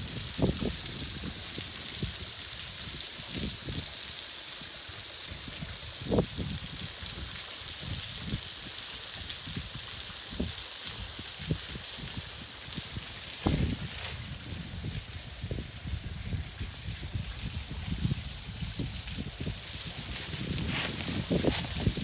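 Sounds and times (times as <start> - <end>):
waterfall spattering on boulders: 0.0 - 22.0.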